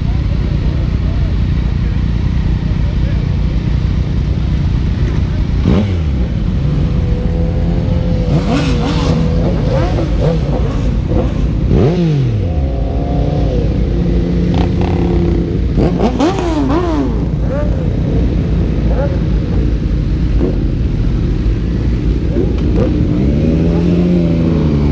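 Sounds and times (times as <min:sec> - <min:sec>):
motorcycle engines idling: 0:00.0 - 0:24.9
motorcycle throttle revs: 0:00.2 - 0:24.9.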